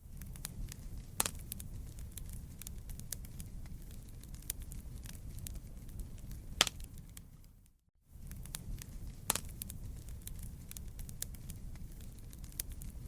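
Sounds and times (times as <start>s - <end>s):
campfire flame rumble: 0.0s - 13.0s
fire crackles and pops: 0.0s - 13.0s.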